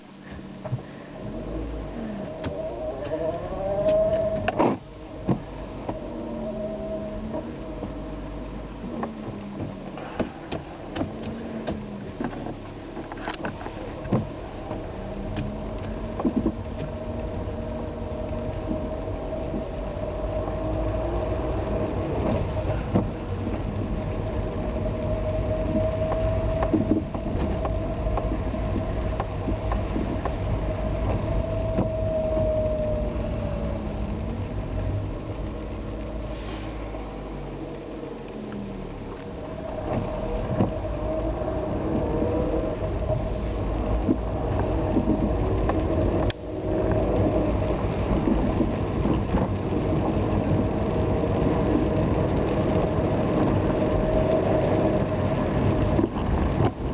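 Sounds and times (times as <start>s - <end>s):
rain: 0.0s - 56.9s
vehicle driving on wet road: 0.0s - 56.9s.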